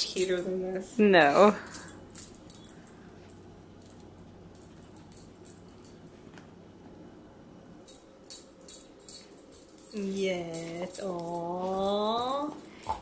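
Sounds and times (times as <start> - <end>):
dog collar jingling: 0.0 - 6.2, 7.8 - 13.0.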